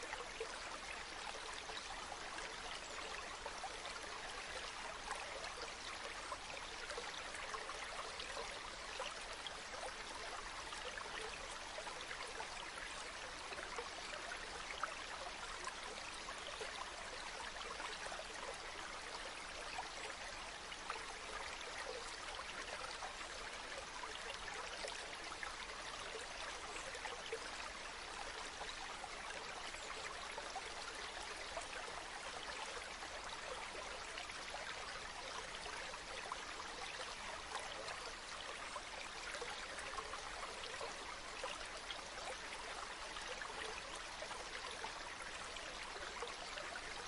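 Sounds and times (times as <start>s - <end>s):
stream babbling: 0.0s - 47.0s.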